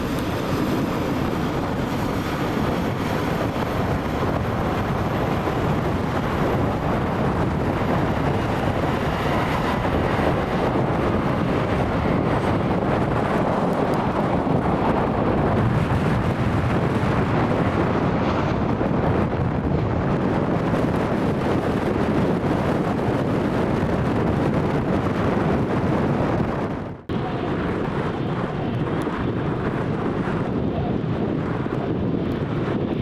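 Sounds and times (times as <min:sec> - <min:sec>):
jet airliners rumbling: 0:00.0 - 0:33.0
wind buffeting microphone: 0:00.0 - 0:33.0.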